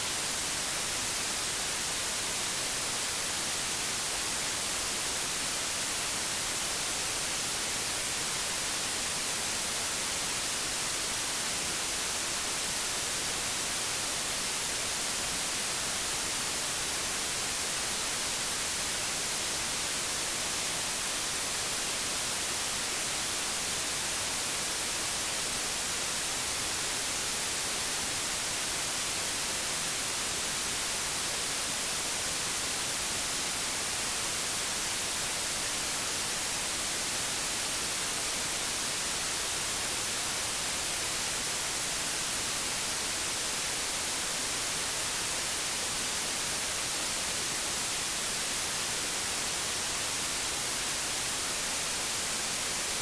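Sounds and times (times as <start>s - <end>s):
television static hiss: 0.0s - 53.0s.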